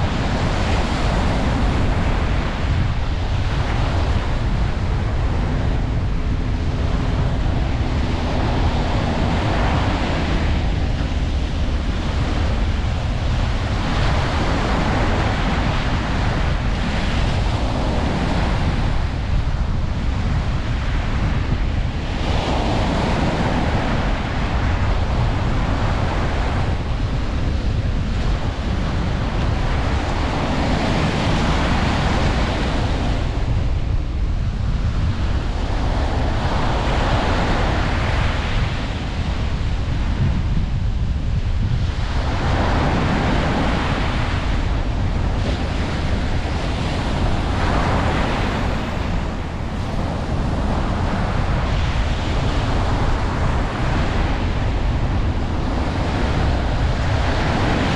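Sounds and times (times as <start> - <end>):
low surf rumble: 0.0 - 57.9
waves breaking on a beach: 0.0 - 57.9
wind buffeting microphone: 0.0 - 57.9.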